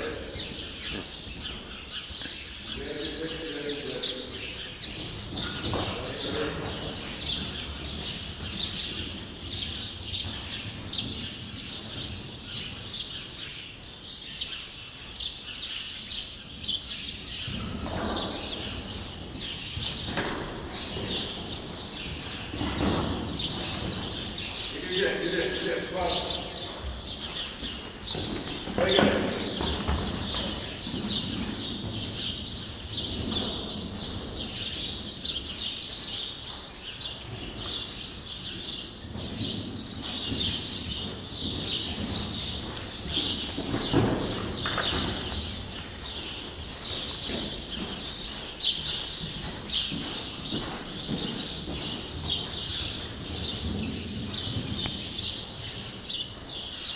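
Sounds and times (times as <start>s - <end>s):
horse hoofbeats on sand: 0.0s - 13.8s, 16.5s - 56.9s
small birds chirping: 0.0s - 56.9s.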